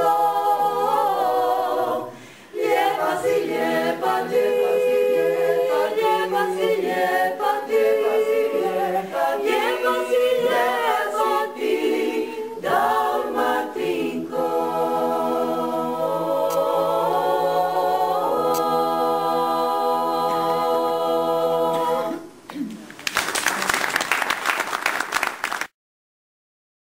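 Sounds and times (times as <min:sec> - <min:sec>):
choir singing in harmony: 0:00.0 - 0:22.4.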